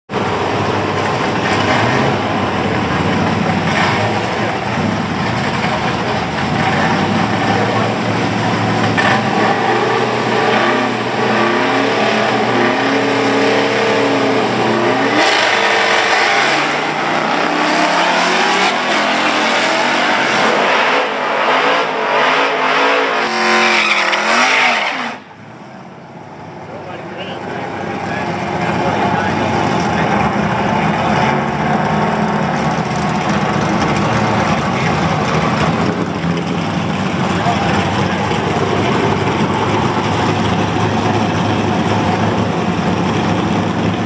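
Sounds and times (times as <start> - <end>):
drag car engines revving: 0.1 - 44.0.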